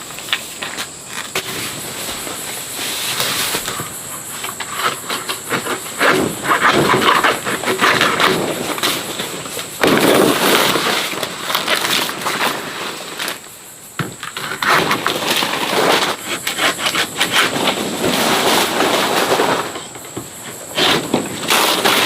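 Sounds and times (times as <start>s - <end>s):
rustling hissing noise: 0.0s - 22.0s.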